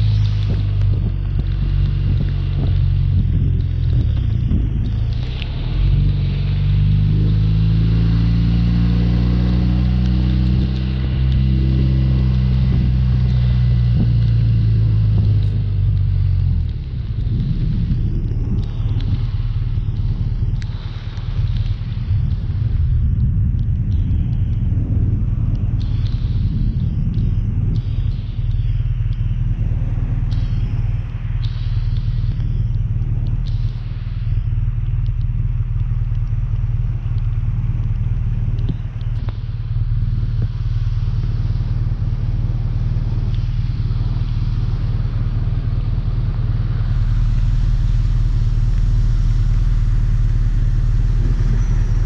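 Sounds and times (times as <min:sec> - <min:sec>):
motorcycle engine running: 0:00.0 - 0:52.0
wind rumble on microphone: 0:00.0 - 0:52.0.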